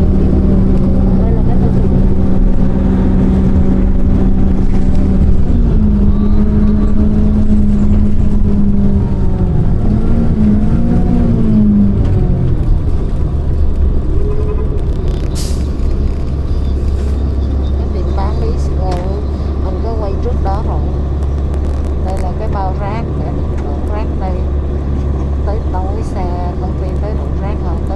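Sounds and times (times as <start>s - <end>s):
bus engine rumbling and humming: 0.0s - 27.9s.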